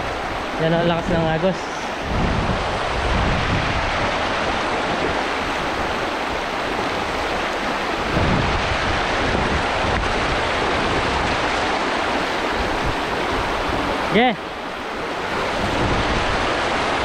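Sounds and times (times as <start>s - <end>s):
river rushing over rocks: 0.0s - 17.0s
wind buffeting microphone: 0.0s - 17.0s.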